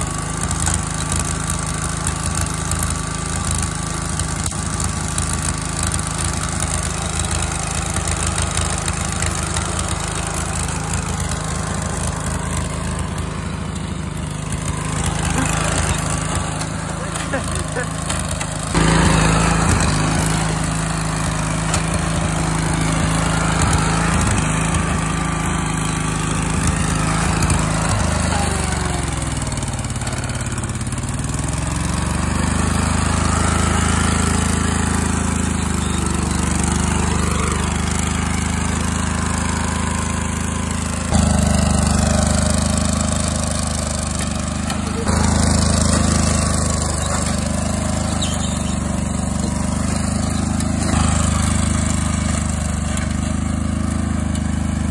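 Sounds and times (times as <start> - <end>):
lawn tractor engine running: 0.0 - 54.9.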